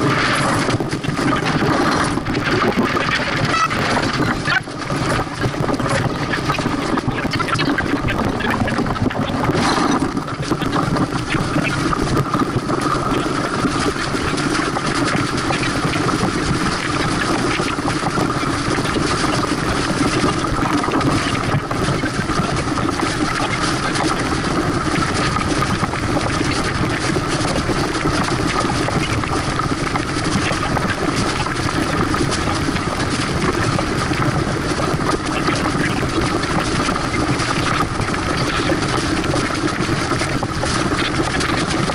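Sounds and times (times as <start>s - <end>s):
water rushing along a hull: 0.0s - 41.9s
wind on microphone: 0.0s - 41.9s.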